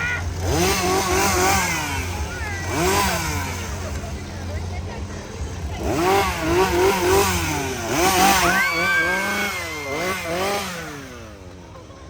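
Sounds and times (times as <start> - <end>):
chainsaw engine revving: 0.0 - 11.6.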